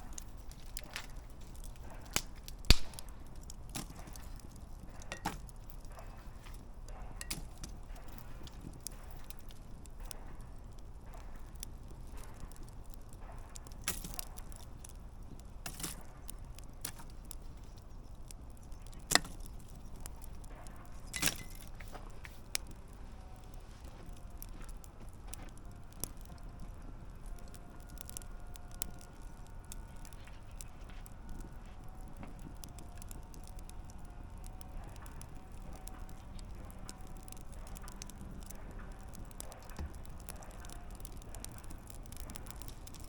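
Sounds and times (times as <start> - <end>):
campfire crackling: 0.0 - 43.0
low rumble of flames: 0.0 - 43.0
sharp pops from burning logs: 0.0 - 43.0.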